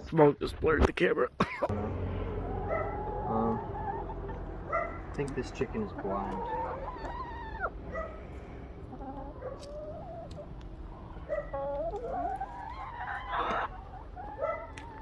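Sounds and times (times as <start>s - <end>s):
chicken calling: 1.8s - 15.0s.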